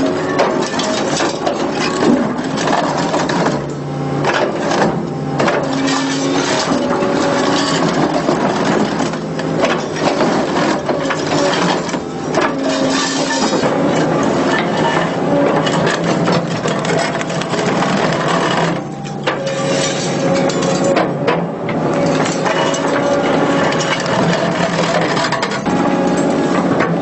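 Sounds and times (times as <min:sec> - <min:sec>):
concrete pulverizer crunching concrete: 0:00.0 - 0:27.0
steady machine hum: 0:00.1 - 0:27.0.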